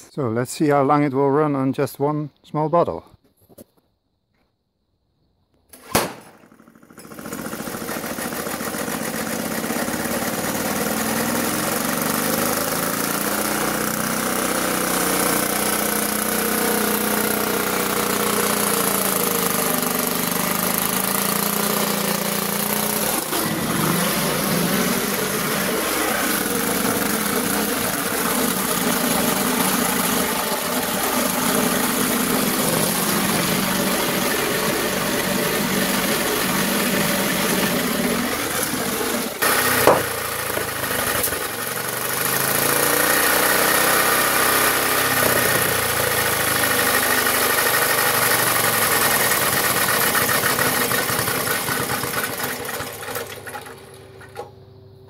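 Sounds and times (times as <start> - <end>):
lawn mower engine running: 5.7 - 55.0.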